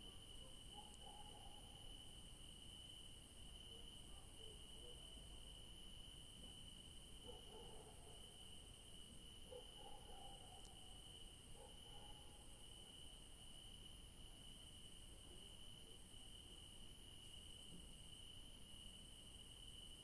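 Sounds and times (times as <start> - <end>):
high insect hum: 0.0 - 20.0.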